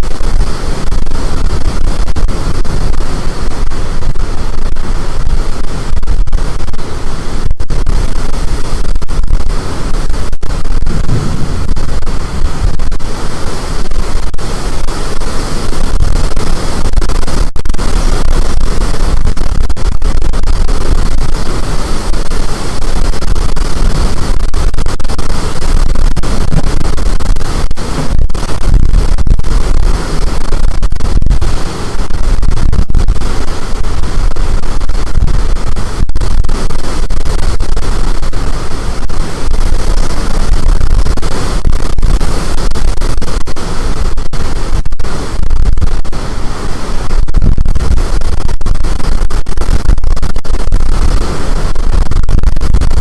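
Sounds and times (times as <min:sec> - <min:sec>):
storm wind roaring on microphone: 0:00.0 - 0:53.0.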